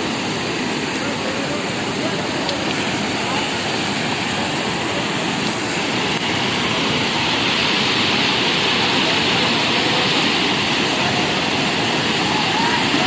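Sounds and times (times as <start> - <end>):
floodwater rushing and roaring: 0.0 - 13.0.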